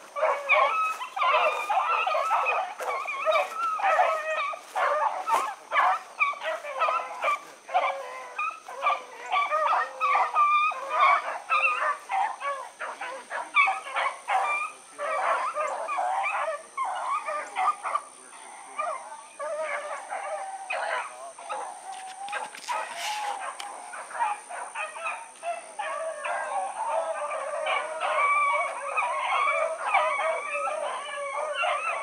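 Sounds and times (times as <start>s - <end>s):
hounds baying and yelping: 0.0s - 32.0s.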